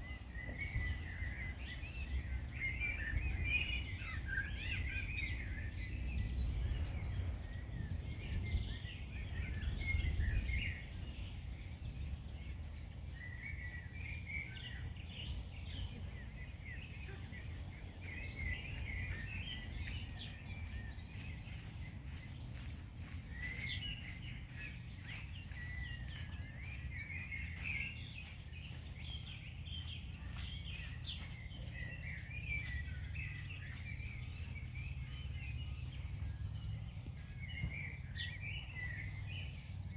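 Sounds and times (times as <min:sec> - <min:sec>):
low rumble of wind: 0:00.0 - 0:39.9
songbirds singing and chirping: 0:00.0 - 0:39.9.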